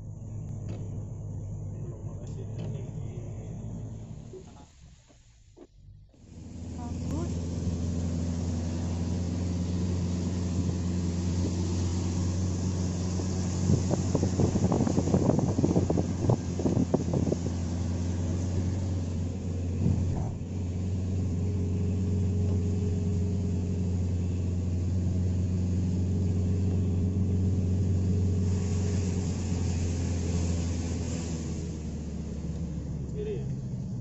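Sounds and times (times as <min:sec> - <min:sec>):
car engine running: 0:00.0 - 0:34.0
tyres on a wet road: 0:00.0 - 0:34.0
rain hiss: 0:06.3 - 0:33.9.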